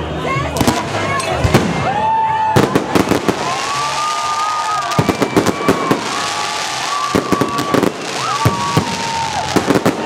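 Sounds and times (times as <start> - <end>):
fireworks bangs: 0.6 - 10.0.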